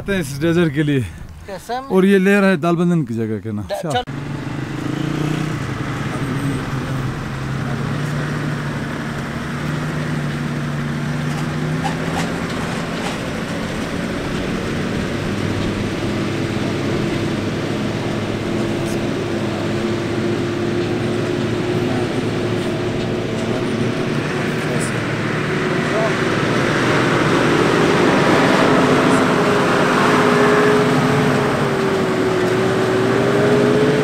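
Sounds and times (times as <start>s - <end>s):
jeep engine running: 0.0s - 34.0s.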